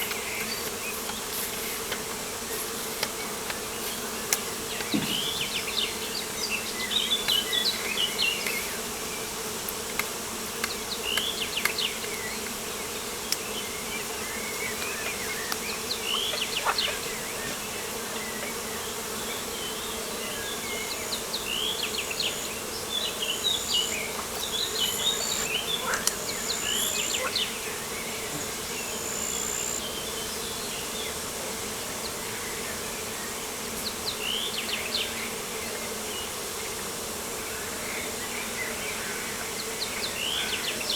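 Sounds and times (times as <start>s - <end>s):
insect buzzing: 0.0s - 40.9s.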